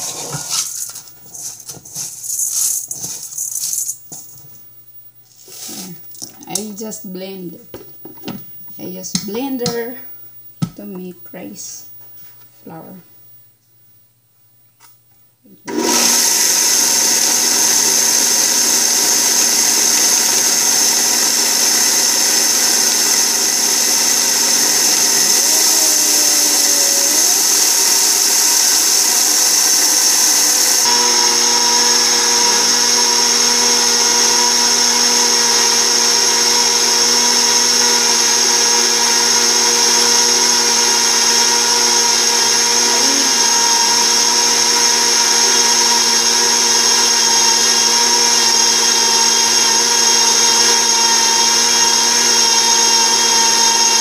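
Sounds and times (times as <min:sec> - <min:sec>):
blender grinding rice: 0:00.0 - 0:04.0, 0:05.5 - 0:06.7, 0:15.7 - 0:54.0.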